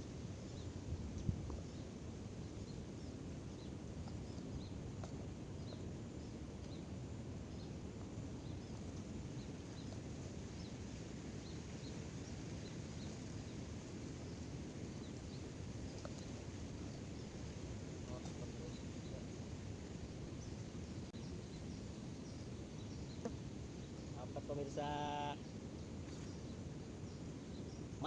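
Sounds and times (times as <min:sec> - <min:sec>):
birds chirping: 0:00.0 - 0:28.0
low rumbling background noise: 0:00.0 - 0:28.0.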